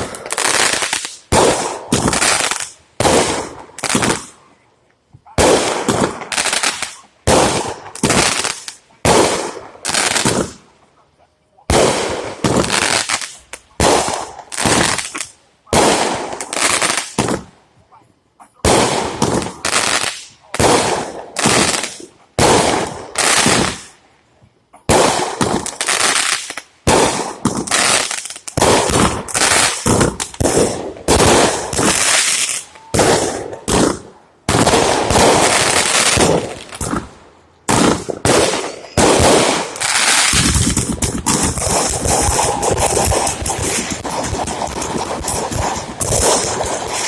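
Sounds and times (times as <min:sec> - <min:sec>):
fireworks bangs with crackling tails: 0:00.0 - 0:10.9, 0:11.7 - 0:17.8, 0:18.5 - 0:47.0.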